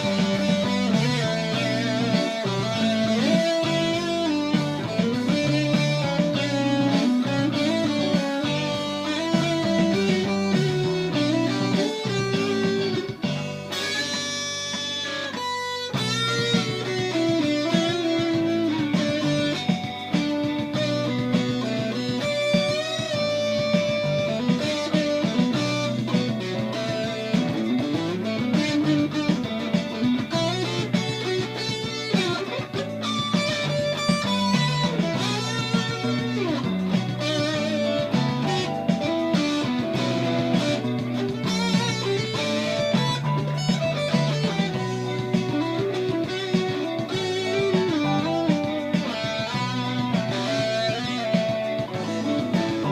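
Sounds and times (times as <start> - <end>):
distorted electric guitar lead: 0.0 - 52.9.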